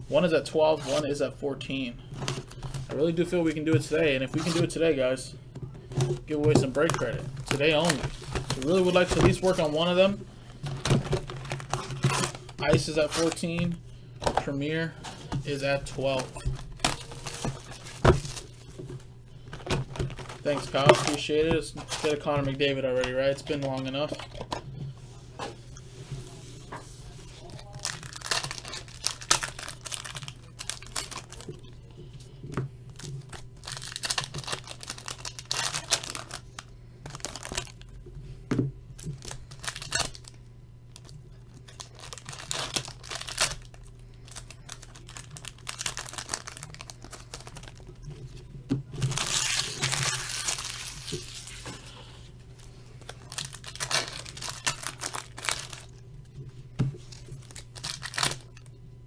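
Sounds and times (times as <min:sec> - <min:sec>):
steady low hum: 0:00.0 - 0:59.0
card packaging crinkling and tearing: 0:02.0 - 0:05.1, 0:05.8 - 0:13.9, 0:15.0 - 0:24.6, 0:27.2 - 0:31.8, 0:32.9 - 0:38.0, 0:39.0 - 0:56.0, 0:57.0 - 0:58.7.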